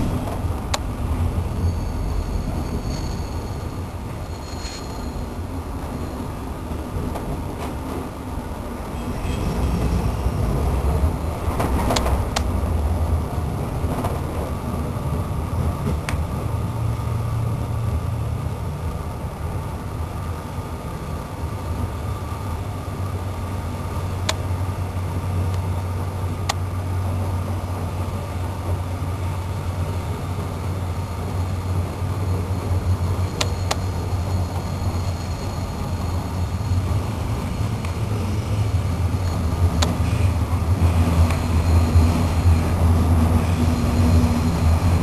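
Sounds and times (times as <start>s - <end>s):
train rumble and hum: 0.0s - 45.0s.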